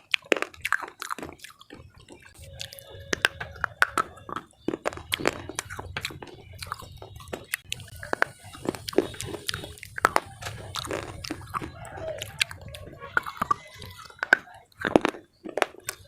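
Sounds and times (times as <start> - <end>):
slate cracking between teeth: 0.0 - 16.0.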